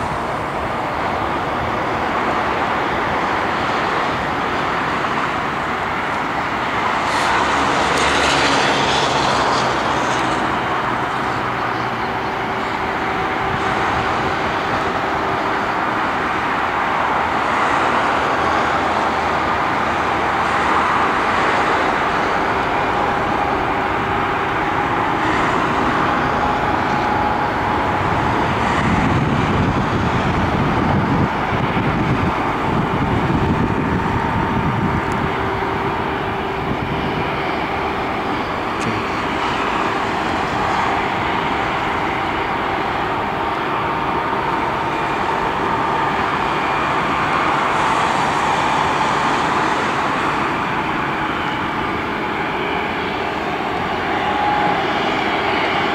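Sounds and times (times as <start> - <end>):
jet airliner whine and rumble: 0.0 - 55.9.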